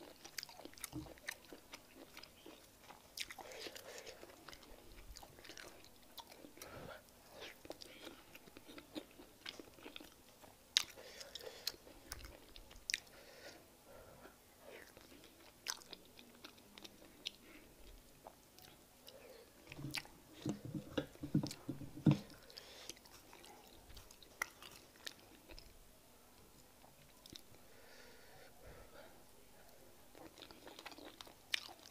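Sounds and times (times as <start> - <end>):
person chewing food: 0.0 - 13.6, 14.2 - 25.7, 30.1 - 31.9.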